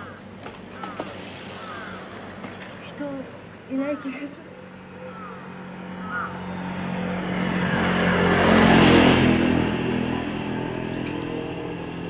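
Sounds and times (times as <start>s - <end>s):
car passing by: 0.8s - 12.0s.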